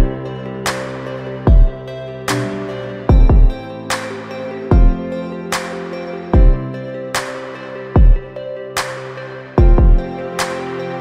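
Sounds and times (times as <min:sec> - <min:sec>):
slow beat with soft chords: 0:00.0 - 0:11.0.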